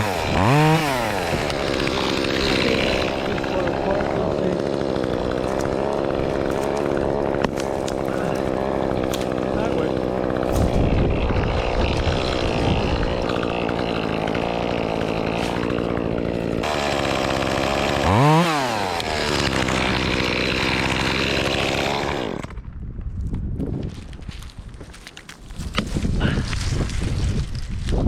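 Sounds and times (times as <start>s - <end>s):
chainsaw running and revving: 0.0s - 22.6s.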